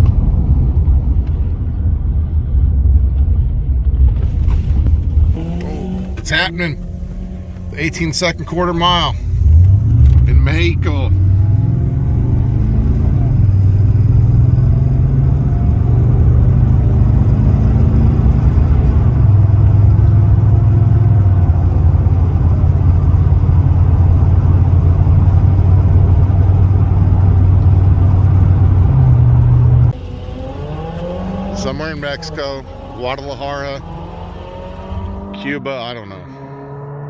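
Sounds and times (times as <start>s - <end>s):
truck engine running: 0.0s - 35.2s.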